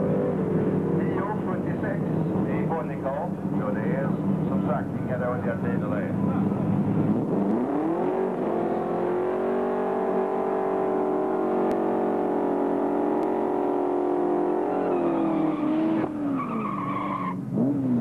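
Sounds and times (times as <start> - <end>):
car engine revving high: 0.0 - 18.0.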